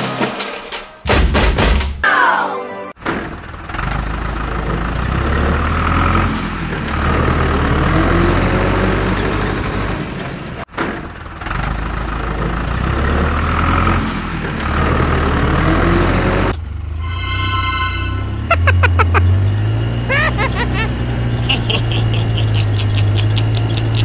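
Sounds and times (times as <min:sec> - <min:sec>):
tractor engine rumble: 0:03.0 - 0:17.0, 0:18.4 - 0:24.0.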